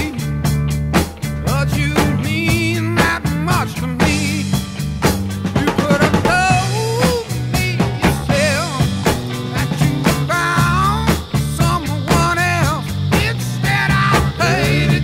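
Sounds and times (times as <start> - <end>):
bass line: 0.0 - 15.0
drum kit beat: 0.0 - 15.0
rock music: 0.0 - 15.0.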